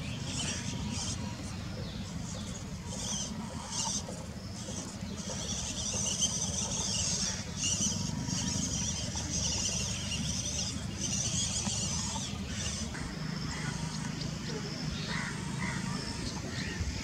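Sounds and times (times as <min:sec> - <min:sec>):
toy truck electric motor whining: 0:00.0 - 0:17.0.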